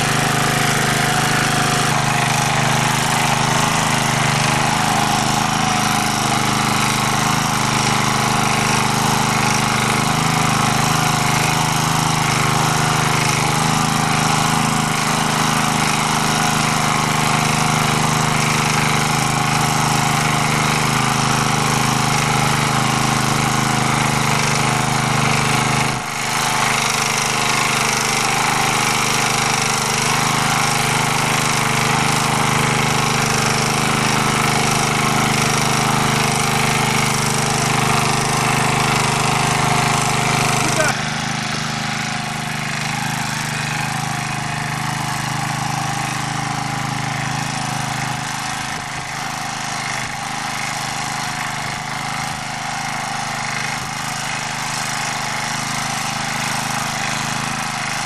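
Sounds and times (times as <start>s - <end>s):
rotary tiller churning soil: 0.0s - 58.0s
tractor engine running under load: 0.0s - 58.0s.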